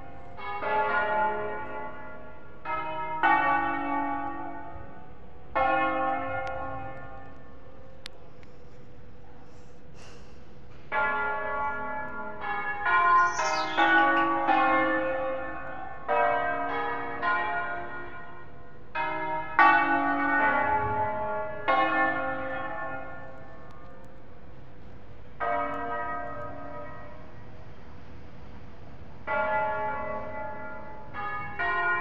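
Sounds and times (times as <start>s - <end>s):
church bells ringing: 0.0s - 8.1s, 10.7s - 27.6s, 29.1s - 32.0s.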